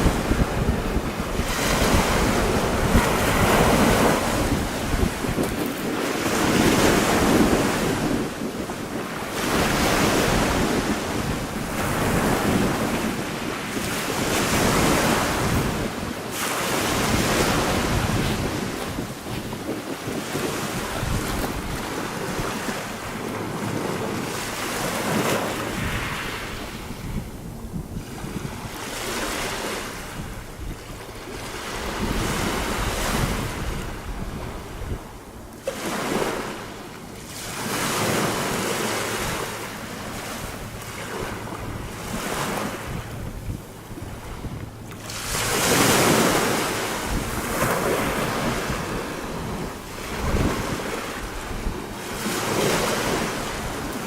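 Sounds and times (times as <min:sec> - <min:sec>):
waves washing over pebbles: 0:00.0 - 0:30.4, 0:35.6 - 0:54.0.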